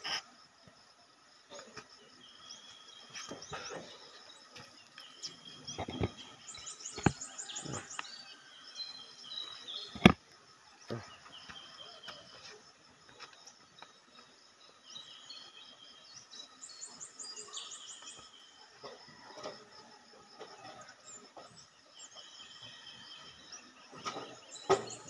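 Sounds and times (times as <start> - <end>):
birds chirping: 1.4 - 25.0.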